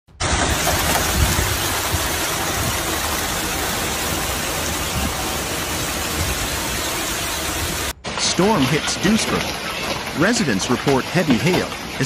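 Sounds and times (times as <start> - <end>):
hail and heavy rain: 0.2 - 12.0.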